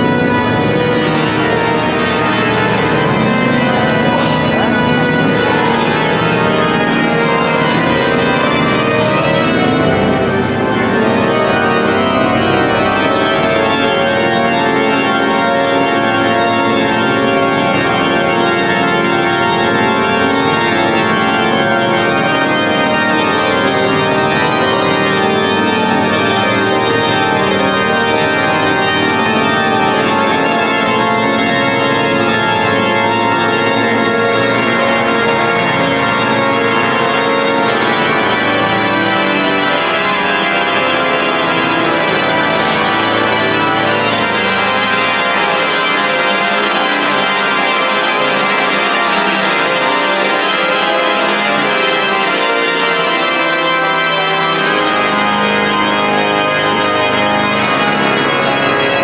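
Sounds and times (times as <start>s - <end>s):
pipe organ playing sustained chords: 0.0s - 59.0s.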